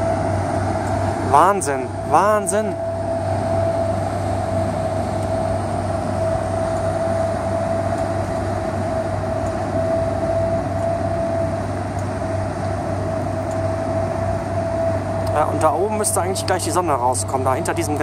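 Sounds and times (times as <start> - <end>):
engine whine: 0.0 - 18.0
ship diesel engines droning: 0.0 - 18.0.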